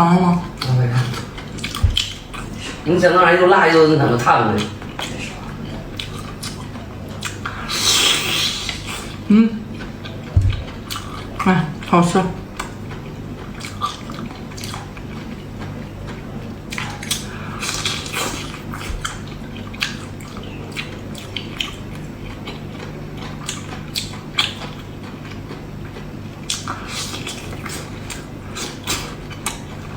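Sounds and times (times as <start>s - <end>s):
low steady hum: 0.0s - 29.9s
person chewing and slurping: 0.5s - 2.9s, 4.6s - 11.4s, 12.5s - 29.9s.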